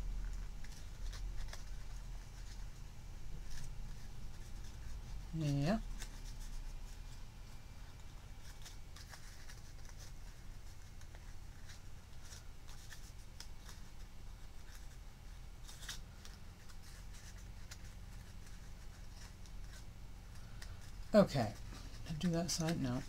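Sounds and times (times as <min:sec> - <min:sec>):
low steady hum: 0:00.0 - 0:23.0
paper crackling and rustling: 0:00.1 - 0:23.0.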